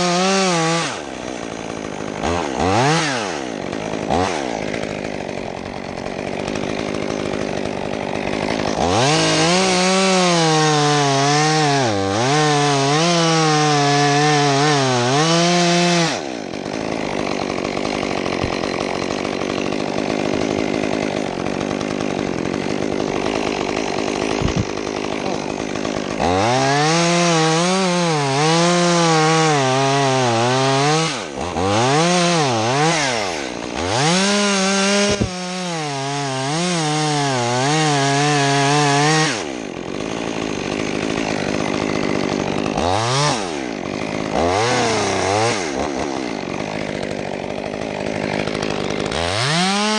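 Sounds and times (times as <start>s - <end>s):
chainsaw cutting wood: 0.0s - 49.9s
chainsaw idling: 0.0s - 49.9s.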